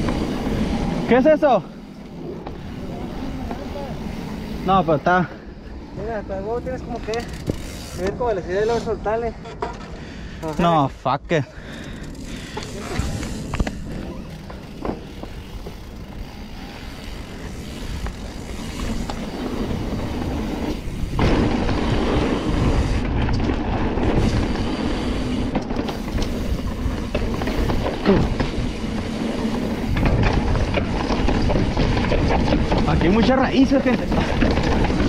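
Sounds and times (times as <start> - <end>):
bike rattling over bumps: 0.0 - 35.0
bike tyres on dirt: 0.0 - 35.0.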